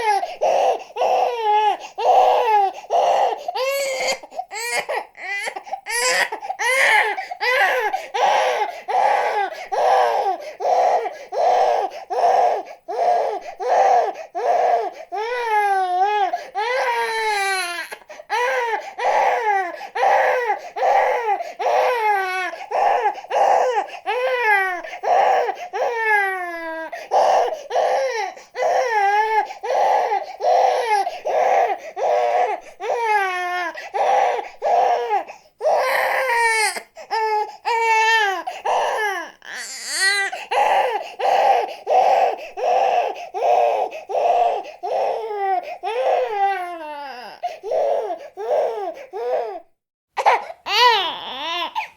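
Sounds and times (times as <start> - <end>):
baby crying: 0.0 - 51.9.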